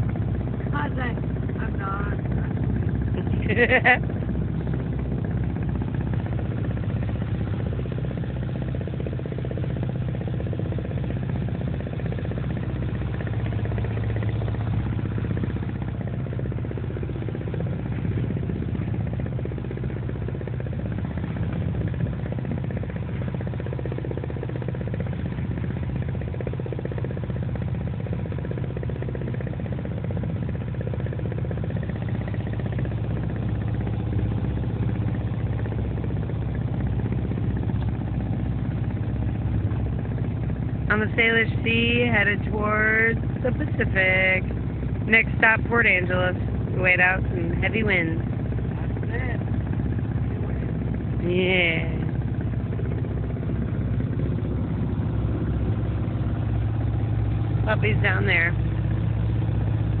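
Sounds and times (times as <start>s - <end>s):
marine diesel engine droning: 0.0s - 60.0s.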